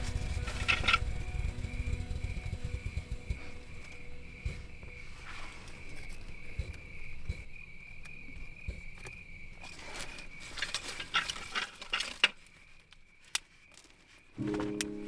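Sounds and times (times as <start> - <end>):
high insect trill: 0.0 - 15.0
rustling: 0.0 - 15.0.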